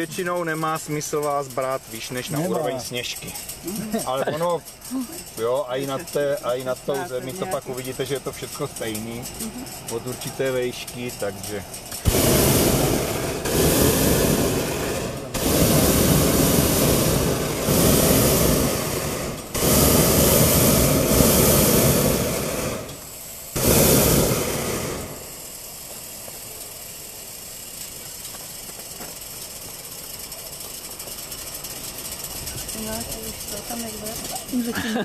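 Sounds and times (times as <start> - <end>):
propane burner blasts: 0.0 - 35.0
steady hiss: 0.0 - 35.0.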